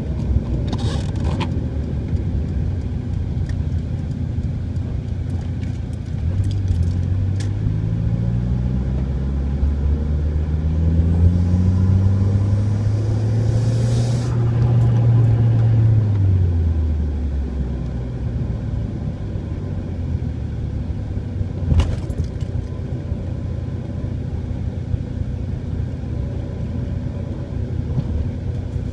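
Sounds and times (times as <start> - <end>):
car humming whine: 0.0 - 28.9
road rumble: 0.0 - 28.9.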